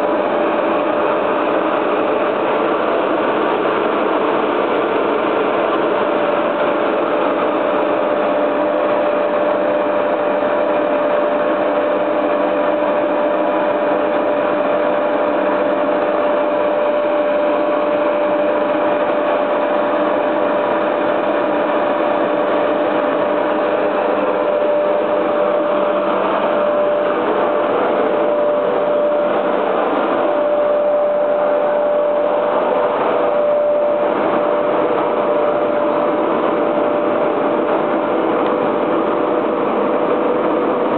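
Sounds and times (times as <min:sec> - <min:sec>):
constant whining tone: 0:00.0 - 0:40.9
machinery drone: 0:00.0 - 0:40.9.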